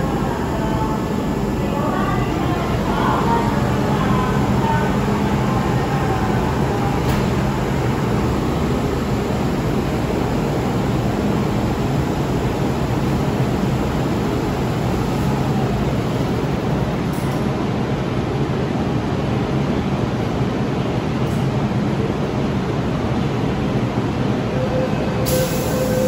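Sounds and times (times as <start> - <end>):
train rail rumble and hiss: 0.0 - 26.0.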